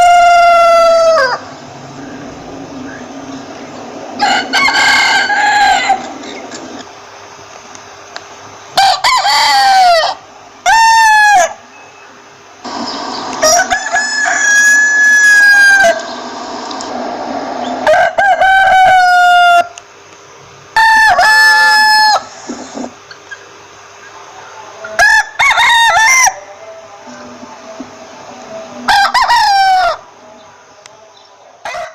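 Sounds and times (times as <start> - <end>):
roosters crowing: 0.0 - 7.2, 8.6 - 19.8, 20.7 - 31.9.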